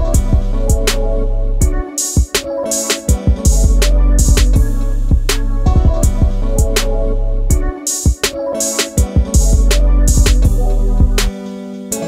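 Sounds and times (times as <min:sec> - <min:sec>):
music with bass and drum beat: 0:00.0 - 0:12.0.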